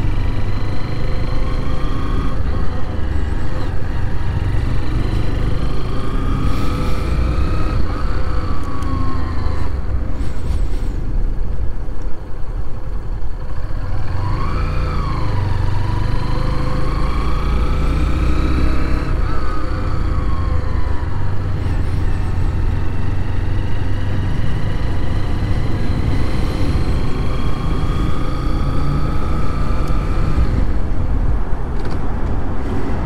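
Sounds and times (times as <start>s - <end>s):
motorcycle engine revving: 0.0s - 9.9s, 13.6s - 30.8s.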